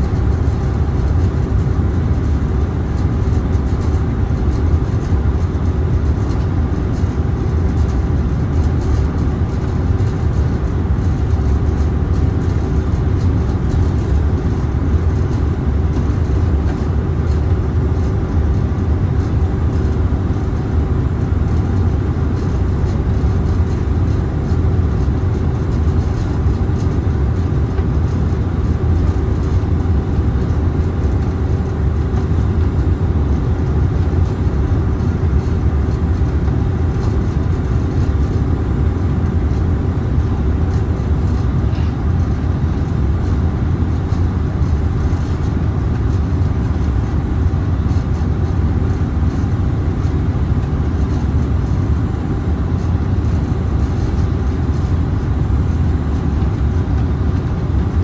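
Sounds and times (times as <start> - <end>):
faint steady hum: 0.0 - 58.0
jet cabin airflow and engine rumble: 0.0 - 58.0.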